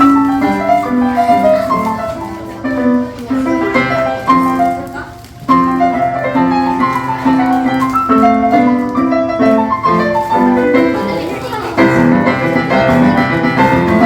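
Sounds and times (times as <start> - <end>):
piano melody over chords: 0.0 - 14.0.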